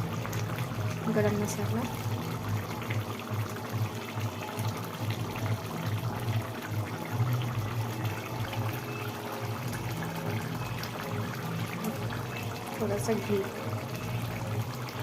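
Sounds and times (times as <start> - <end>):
curry bubbling and sizzling: 0.0 - 15.0.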